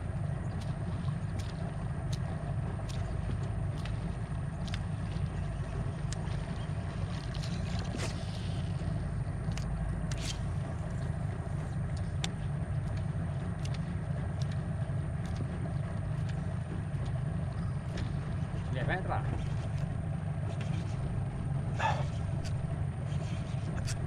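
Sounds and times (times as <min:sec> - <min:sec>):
boat motor droning: 0:00.0 - 0:24.0.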